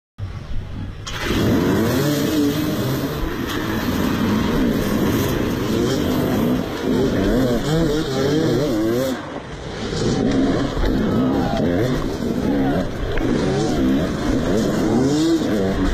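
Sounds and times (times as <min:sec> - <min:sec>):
motocross bike engines revving: 0:00.4 - 0:15.9.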